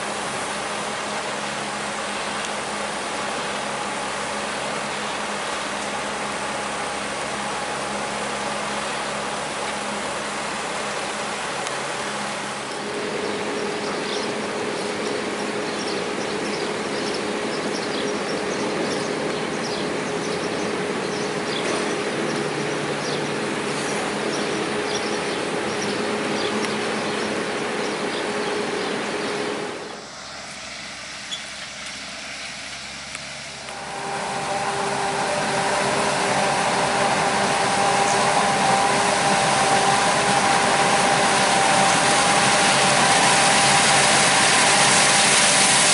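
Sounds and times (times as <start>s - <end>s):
farm machinery engine drone: 0.0s - 45.9s
forage harvester whining: 0.0s - 45.9s.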